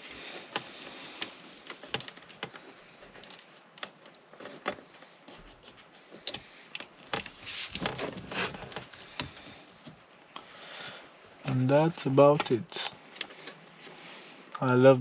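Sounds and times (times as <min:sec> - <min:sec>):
handling and rustling noise: 0:00.0 - 0:15.0.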